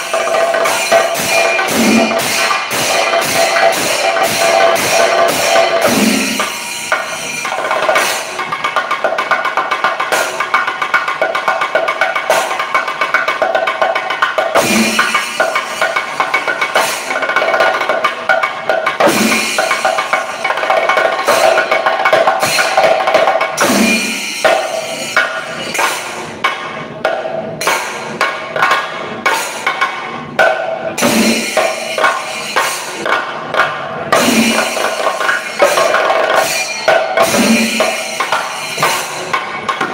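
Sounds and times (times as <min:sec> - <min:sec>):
drums struck fast with sticks: 0:00.0 - 0:39.9.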